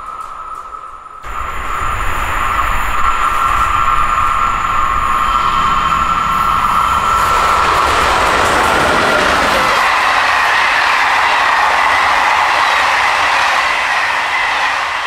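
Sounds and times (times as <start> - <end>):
train rushing past: 0.0 - 15.0.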